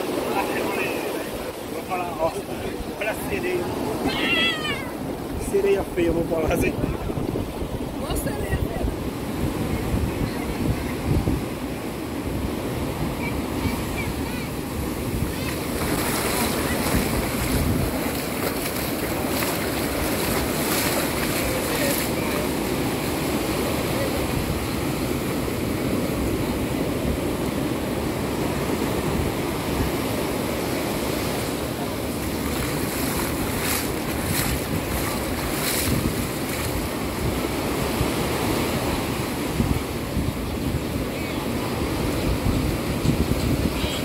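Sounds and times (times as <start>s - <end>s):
ocean surf breaking on beach: 0.0s - 44.0s
wind gusts on microphone: 0.0s - 44.0s.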